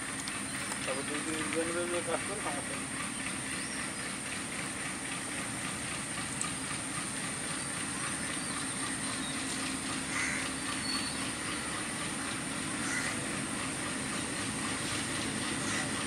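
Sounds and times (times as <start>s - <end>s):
diesel locomotive engine humming: 0.0s - 16.0s
faint rail noise: 0.0s - 16.0s.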